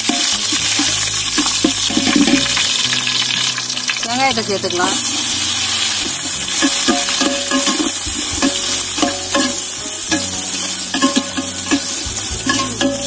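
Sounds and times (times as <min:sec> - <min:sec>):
metal spoon scraping a pot: 0:00.0 - 0:02.6, 0:05.0 - 0:13.0
onions sizzling in hot oil: 0:00.0 - 0:13.0.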